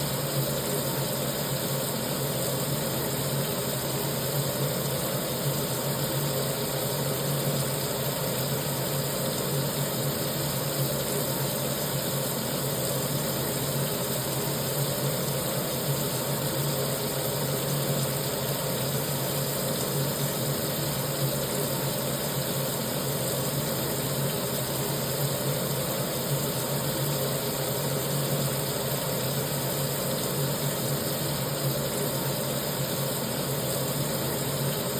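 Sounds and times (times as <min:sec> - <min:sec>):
tap water pouring into sink: 0:00.0 - 0:34.9.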